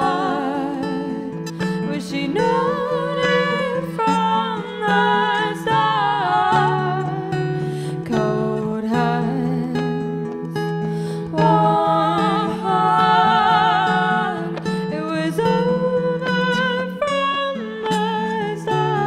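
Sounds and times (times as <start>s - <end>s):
acoustic guitar: 0.0s - 19.0s
ukulele: 0.0s - 19.0s
women singing: 0.0s - 19.0s.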